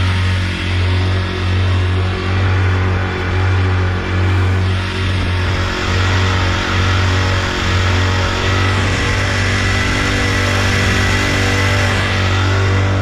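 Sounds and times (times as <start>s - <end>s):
outboard motor running: 0.0s - 13.0s
water noise: 0.0s - 13.0s
wind noise: 0.0s - 13.0s.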